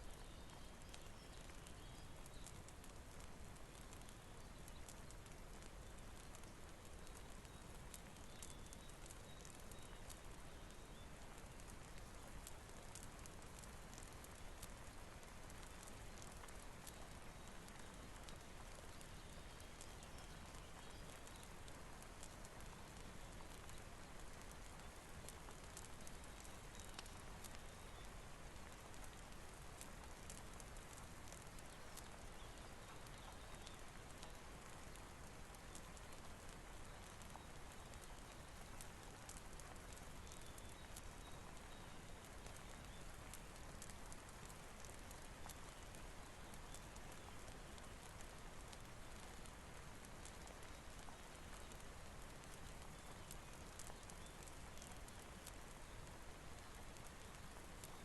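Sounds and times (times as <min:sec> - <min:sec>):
steady rain hiss: 0:00.0 - 0:58.0
wood fire crackling: 0:00.0 - 0:58.0.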